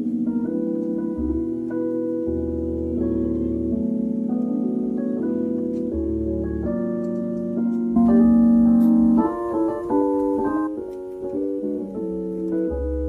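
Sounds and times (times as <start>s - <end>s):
keyboard piano chords: 0.0s - 13.0s.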